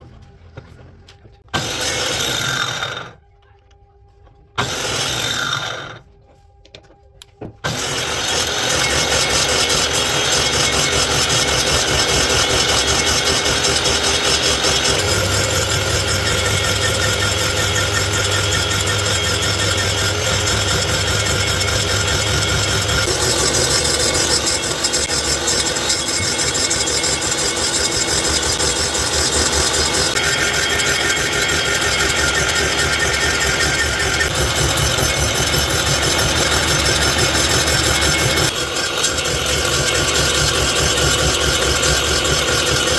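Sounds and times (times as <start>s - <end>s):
power tool rasping on wood: 1.6s - 3.2s, 4.6s - 6.0s, 7.7s - 42.9s.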